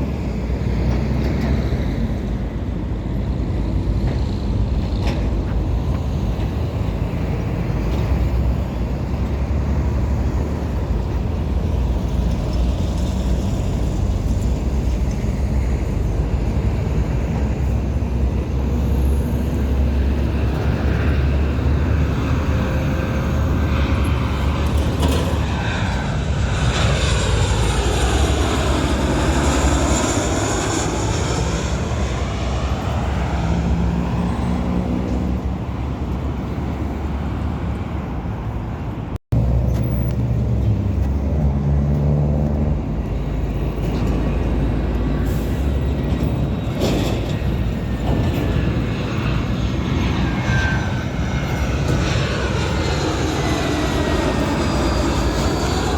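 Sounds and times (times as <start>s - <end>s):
jet airliner passing overhead: 0.0s - 55.9s.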